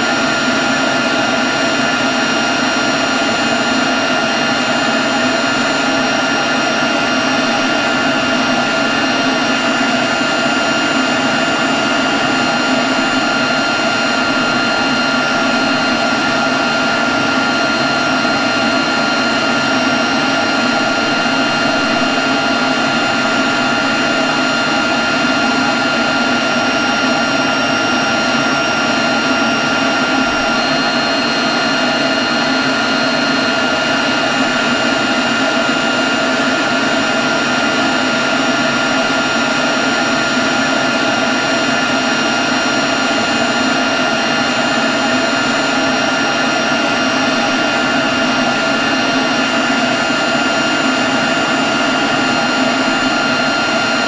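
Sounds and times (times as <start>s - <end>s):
leaf blower running: 0.0s - 54.0s.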